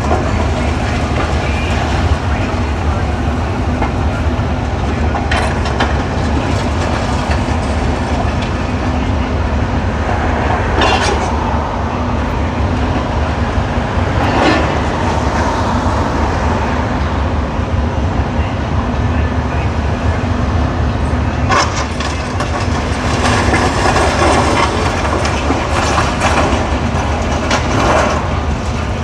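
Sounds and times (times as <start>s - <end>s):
demolition machinery rumbling: 0.0s - 29.0s.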